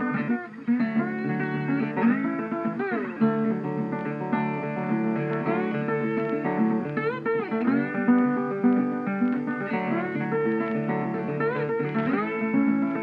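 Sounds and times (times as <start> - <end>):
guitar with bent notes and strum: 0.0 - 13.0.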